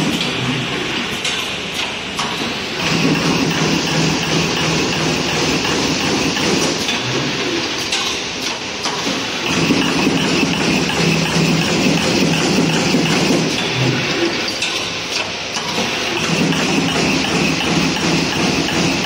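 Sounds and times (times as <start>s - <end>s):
factory machinery running: 0.0s - 19.0s.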